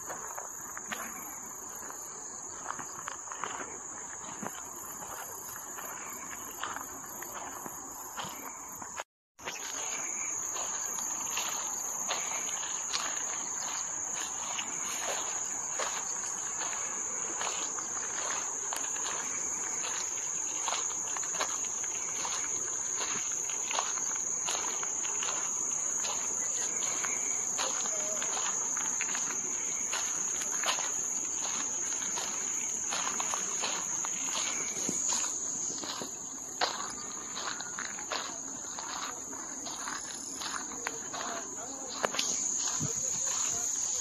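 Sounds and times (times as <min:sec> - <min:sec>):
footsteps on path: 0:00.0 - 0:44.0
insects chirring: 0:00.0 - 0:44.0.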